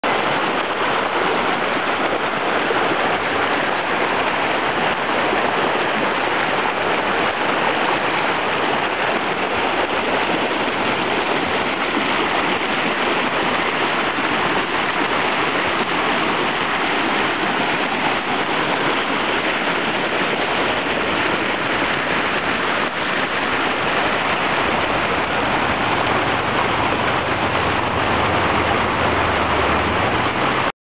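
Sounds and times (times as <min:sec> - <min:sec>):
creek water rushing: 0:00.0 - 0:30.7.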